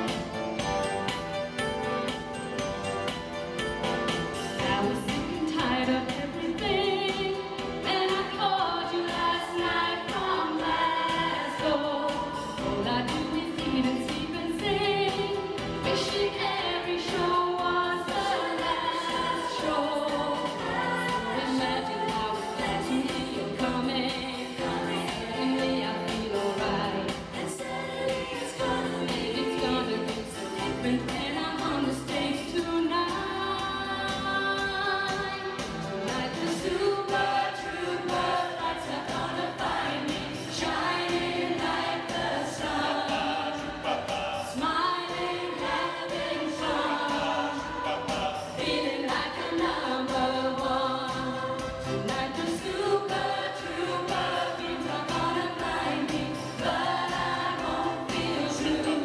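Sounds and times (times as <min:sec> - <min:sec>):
choir singing pop song: 0:00.0 - 0:59.0.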